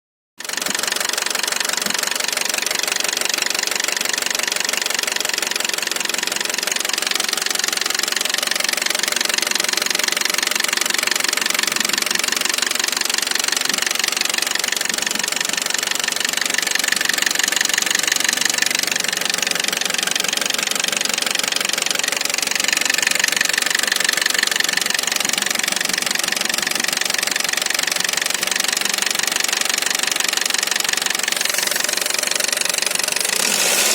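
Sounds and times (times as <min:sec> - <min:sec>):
car engine running: 0:00.4 - 0:33.9
fast rhythmic engine knocking: 0:00.4 - 0:33.9.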